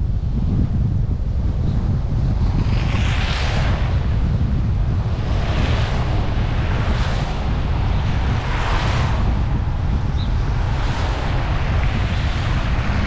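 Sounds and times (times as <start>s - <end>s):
rushing wind hiss: 0.0s - 13.0s
wind buffeting microphone: 0.0s - 13.0s.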